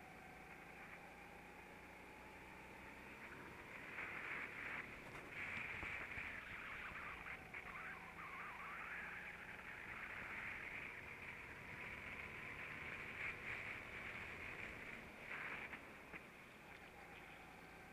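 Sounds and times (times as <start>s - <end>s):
muffled kart engine: 0.0s - 17.9s.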